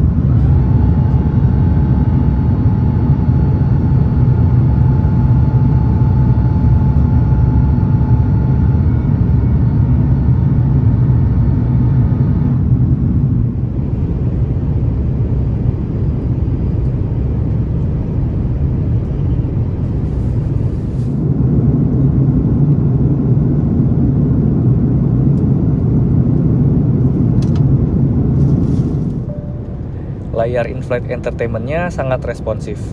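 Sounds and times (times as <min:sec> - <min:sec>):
airliner engine and airflow rumble: 0:00.0 - 0:32.9
faint tonal whine: 0:00.0 - 0:32.9.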